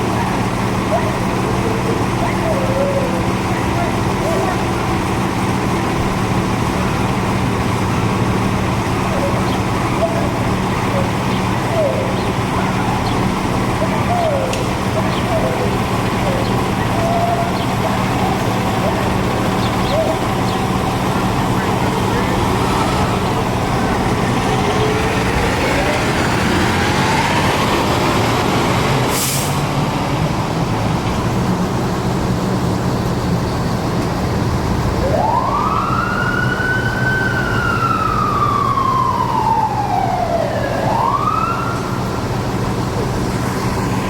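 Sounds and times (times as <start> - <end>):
fire engine siren wailing: 0.0 - 44.0
truck engine hum: 0.0 - 44.0.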